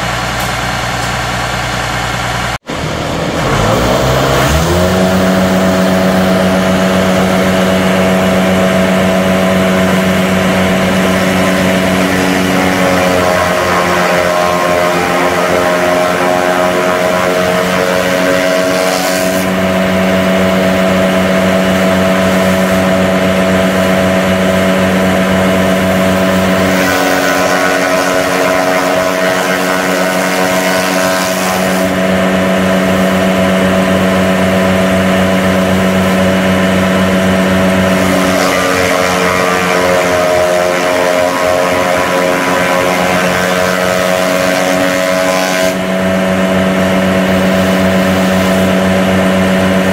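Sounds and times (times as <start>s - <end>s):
forage chopper hissing rush: 0.0s - 49.9s
tractor diesel engine running: 0.0s - 49.9s.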